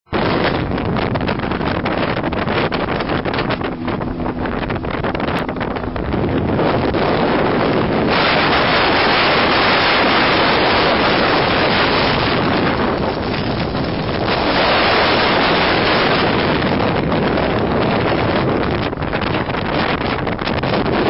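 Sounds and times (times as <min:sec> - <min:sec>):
blizzard wind blasting microphone: 0:00.0 - 0:21.0.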